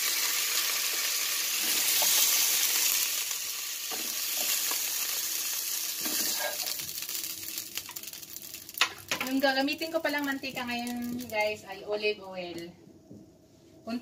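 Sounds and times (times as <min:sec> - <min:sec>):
meat sizzling in a frying pan: 0:00.0 - 0:11.6.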